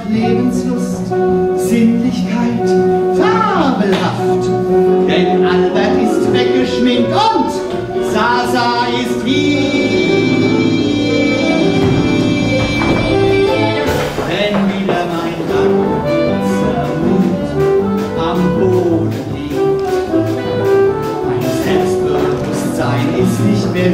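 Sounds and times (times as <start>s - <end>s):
jazz band playing: 0.0s - 23.9s.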